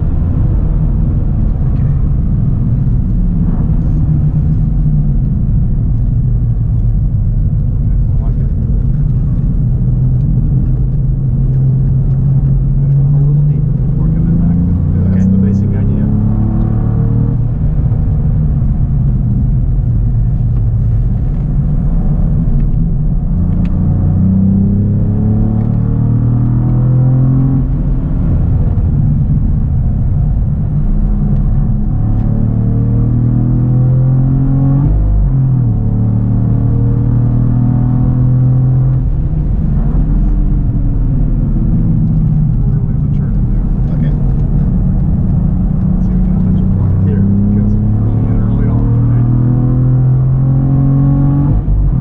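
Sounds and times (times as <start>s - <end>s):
car engine pulling hard: 0.0s - 52.0s
road and tyre noise: 0.0s - 52.0s.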